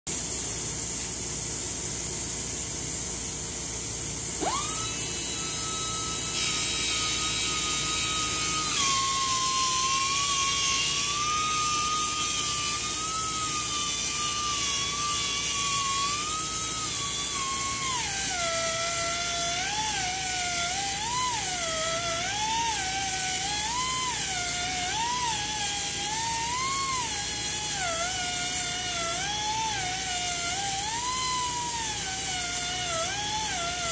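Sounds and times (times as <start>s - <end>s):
pneumatic sander whining: 0.1s - 33.9s.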